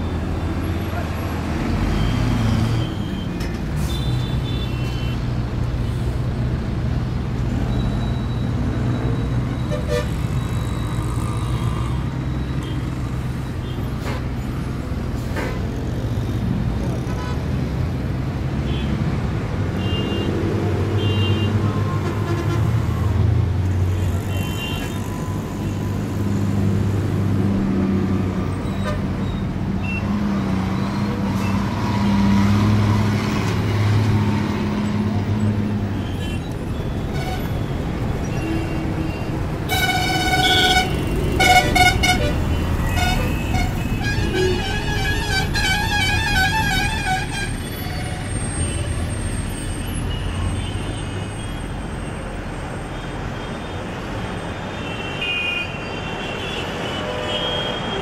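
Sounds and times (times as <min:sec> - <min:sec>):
rumble of vehicle engines: 0:00.0 - 0:58.0.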